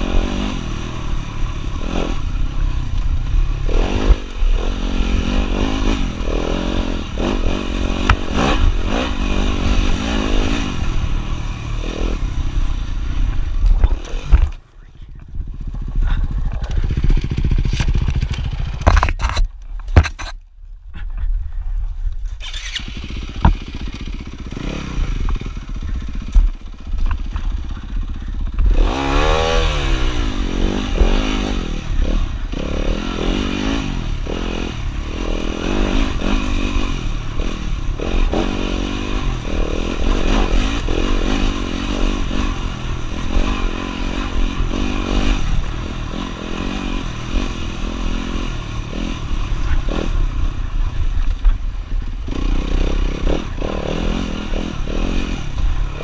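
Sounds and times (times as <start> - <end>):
dirt bike engine revving: 0.0 - 14.6, 15.4 - 19.2, 22.4 - 56.0.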